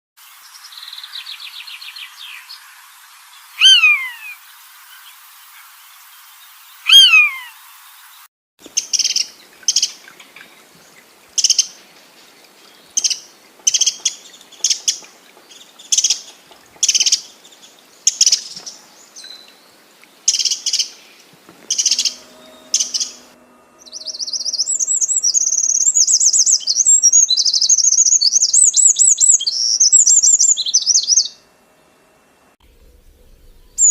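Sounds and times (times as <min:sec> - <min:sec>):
birds calling: 0:00.5 - 0:31.4, 0:32.8 - 0:33.9.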